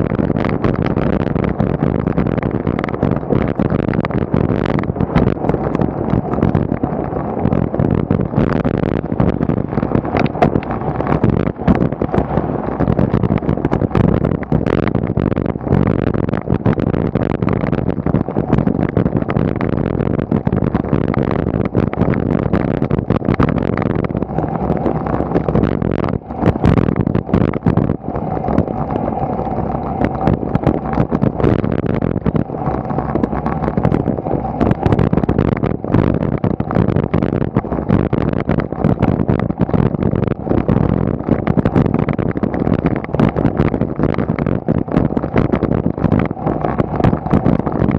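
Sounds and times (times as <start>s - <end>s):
road rumble: 0.0s - 47.9s
wind buffeting: 0.0s - 47.9s.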